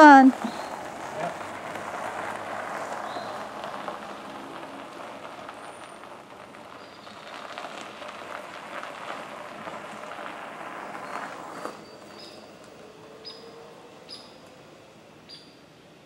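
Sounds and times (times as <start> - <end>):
cart tyres crunching over gravel: 0.0 - 16.0.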